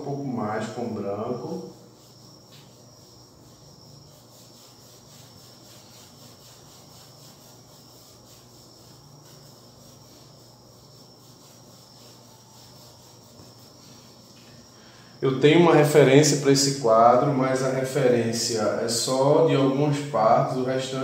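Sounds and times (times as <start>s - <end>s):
crickets trilling: 0.0s - 21.0s
low background hum: 0.0s - 21.0s.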